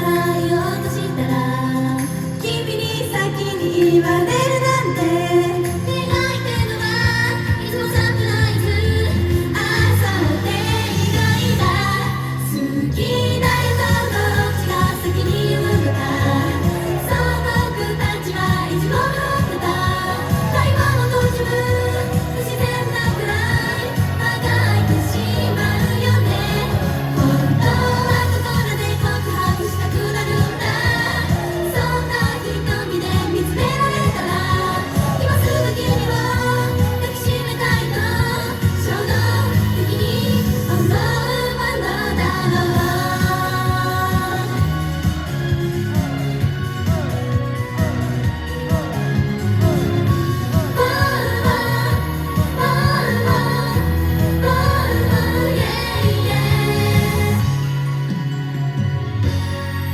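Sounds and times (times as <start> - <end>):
pop song singing over a beat: 0.0 - 59.9.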